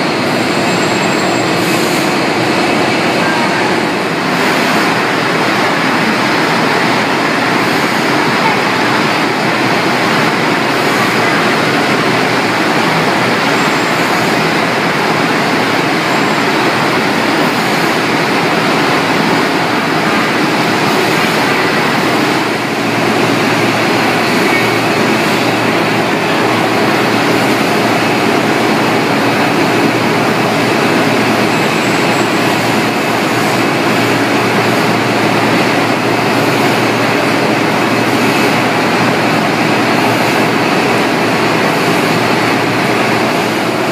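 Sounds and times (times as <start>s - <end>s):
machinery running: 0.0s - 43.9s
water sprays rushing: 0.1s - 43.9s.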